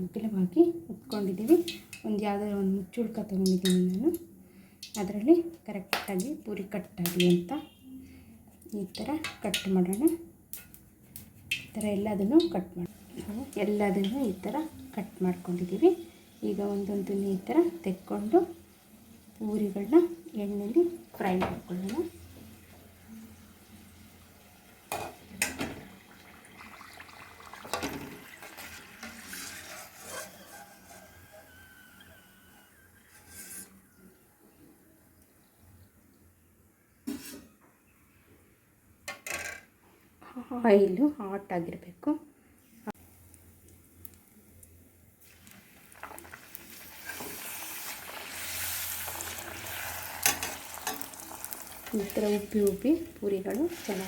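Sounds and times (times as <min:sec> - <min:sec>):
frying in hot oil: 0:00.0 - 0:07.7, 0:08.6 - 0:33.7, 0:42.9 - 0:54.0.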